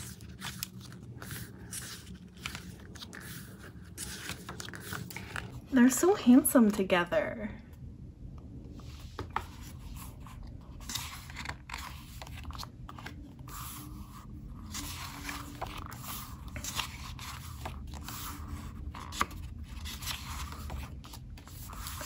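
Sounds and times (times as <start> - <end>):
pages turning and rustling: 0.0 - 5.6, 8.8 - 22.0.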